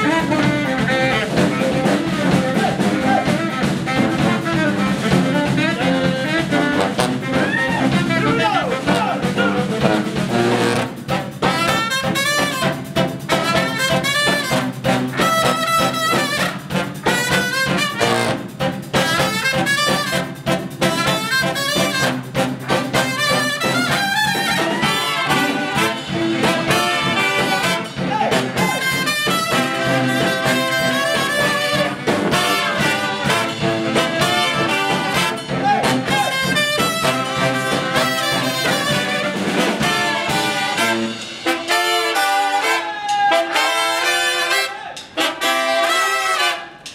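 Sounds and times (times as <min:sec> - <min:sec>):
brass band playing: 0:00.0 - 0:46.9
drum kit steady beat: 0:00.0 - 0:46.9.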